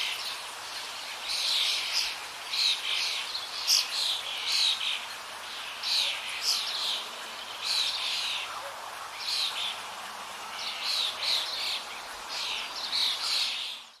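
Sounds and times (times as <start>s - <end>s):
outdoor background hiss: 0.0s - 14.0s
songbirds chirping: 0.0s - 14.0s.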